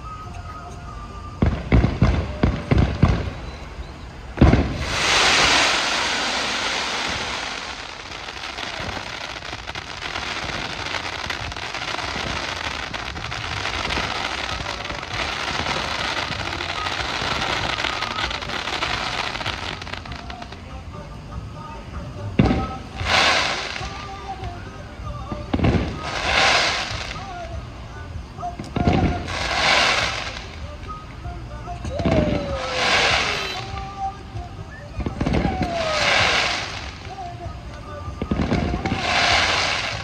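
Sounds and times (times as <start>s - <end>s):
crackling hiss of fireworks sparks: 0.0s - 40.0s
fireworks bangs: 1.2s - 40.0s.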